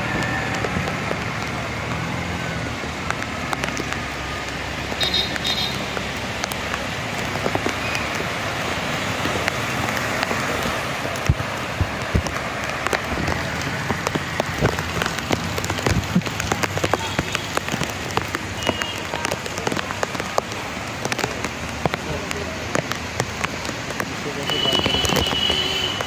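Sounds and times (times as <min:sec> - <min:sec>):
close raindrop hits: 0:00.0 - 0:26.0
heavy rain on street: 0:00.0 - 0:26.0.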